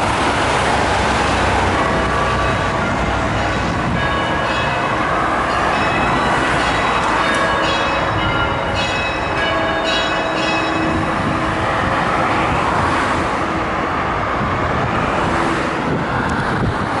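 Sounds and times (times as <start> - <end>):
church bells ringing: 0.0 - 13.8
steady rushing noise: 0.0 - 17.0.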